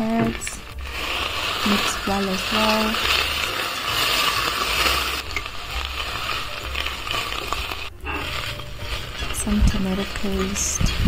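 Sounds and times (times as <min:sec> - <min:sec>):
metal spoon stirring and scraping: 0:00.0 - 0:11.0
vegetables sizzling in a pot: 0:00.0 - 0:11.0.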